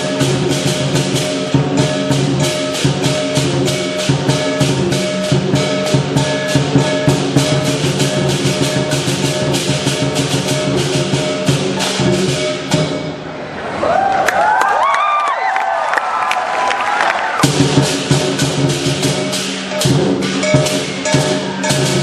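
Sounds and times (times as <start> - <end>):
gong: 0.0 - 13.5, 17.4 - 22.0
big drum beating: 0.0 - 13.6, 17.4 - 22.0
cymbals clashing: 0.0 - 13.7, 17.4 - 22.0.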